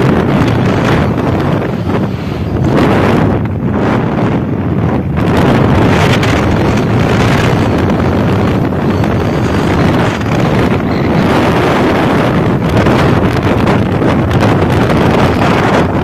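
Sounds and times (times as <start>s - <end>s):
motorcycle noise: 0.0s - 16.0s
wind buffeting microphone: 0.0s - 16.0s.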